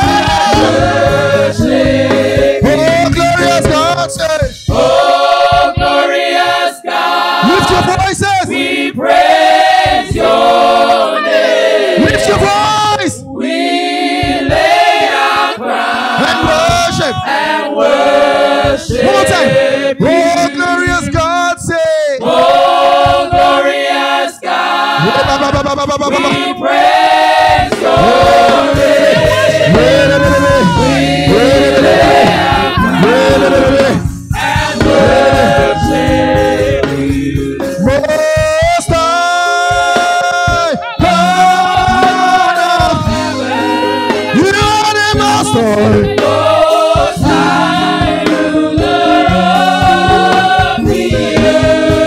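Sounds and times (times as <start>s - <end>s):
musical accompaniment: 0.0s - 21.5s, 22.2s - 52.0s
choir singing worship song: 0.0s - 52.0s.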